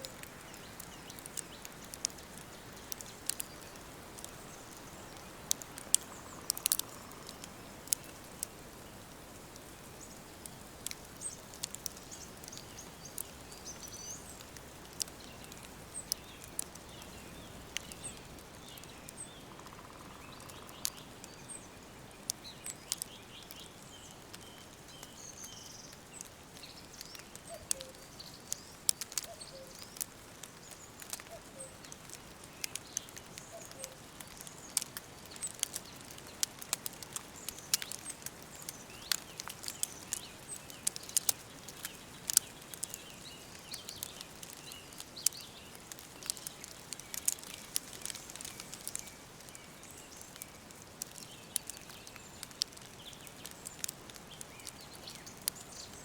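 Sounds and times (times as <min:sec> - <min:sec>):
sharp irregular crackles: 0:00.0 - 0:56.0
birds chirping: 0:09.8 - 0:56.0.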